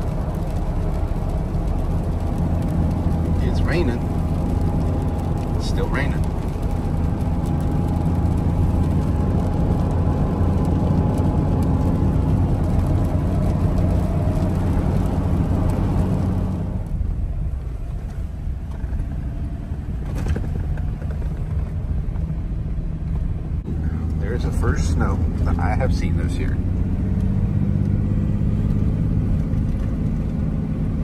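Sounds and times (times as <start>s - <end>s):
engine and tyres rumbling: 0.0s - 31.0s.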